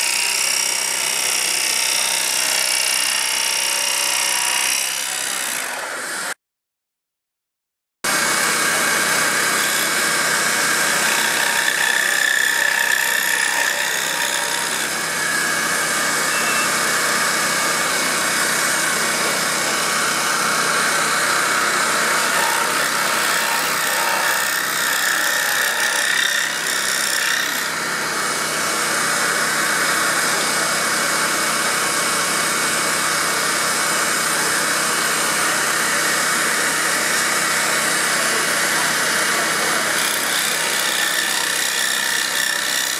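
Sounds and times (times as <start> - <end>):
scroll saw cutting wood: 0.0 - 6.4, 8.1 - 42.9.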